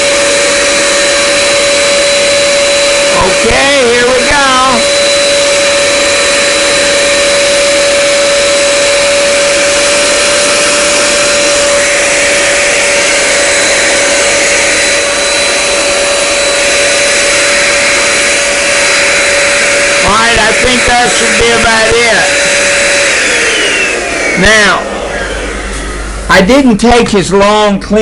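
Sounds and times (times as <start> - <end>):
handheld vacuum cleaner running: 0.0 - 28.0.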